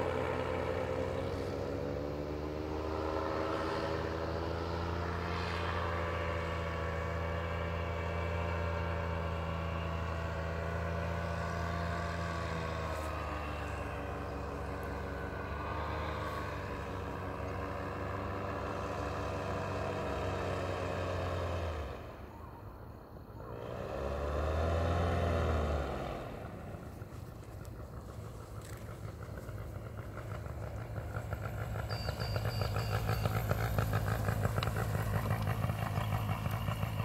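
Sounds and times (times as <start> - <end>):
paramotor engine drone: 0.0 - 37.0.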